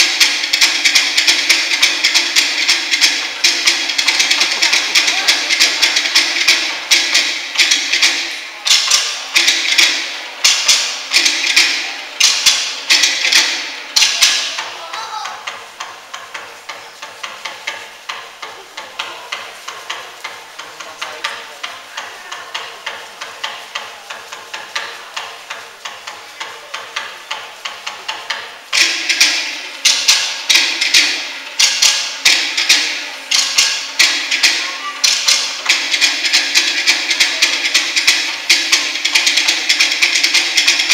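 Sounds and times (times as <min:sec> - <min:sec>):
rhythmic wooden knocks: 0:00.0 - 0:40.9.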